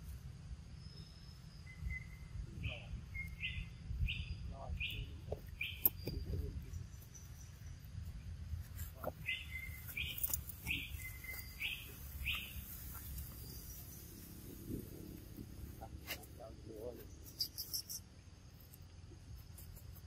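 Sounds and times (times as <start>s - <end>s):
steady low rumble: 0.0s - 17.2s
bird chirping: 0.6s - 20.0s.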